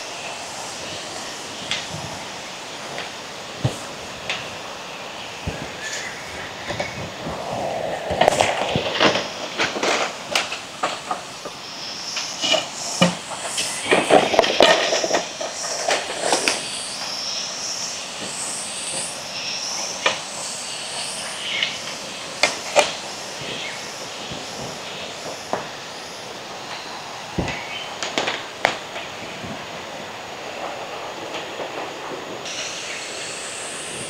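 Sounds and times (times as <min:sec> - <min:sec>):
leaves and twigs crackling: 0:00.0 - 0:34.0.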